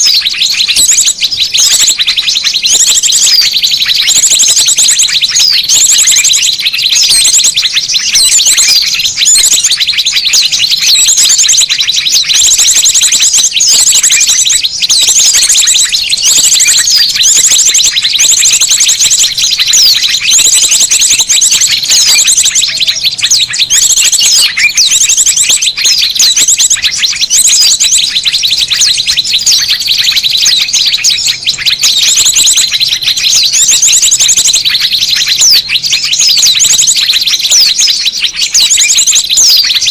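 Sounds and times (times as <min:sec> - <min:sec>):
rapid high bird trill: 0:00.0 - 0:39.9
small birds chirping and trilling: 0:00.0 - 0:39.9.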